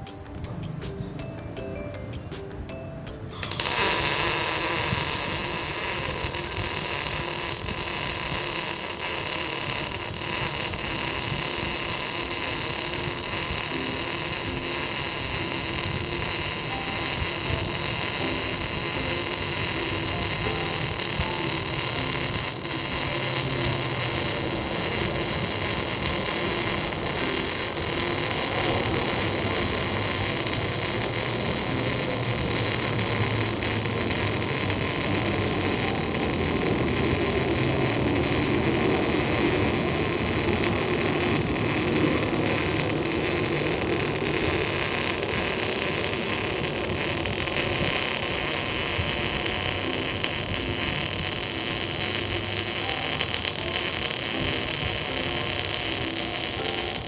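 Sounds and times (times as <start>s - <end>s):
welder arc sizzling: 3.3s - 57.0s.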